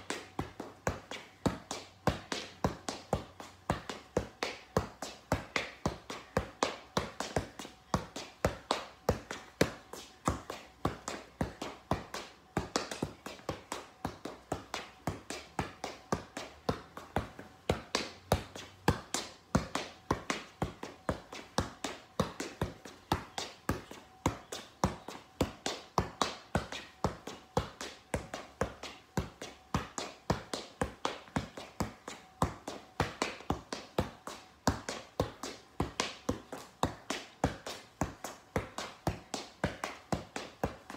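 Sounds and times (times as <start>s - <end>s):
soccer ball taps: 0.0s - 40.9s.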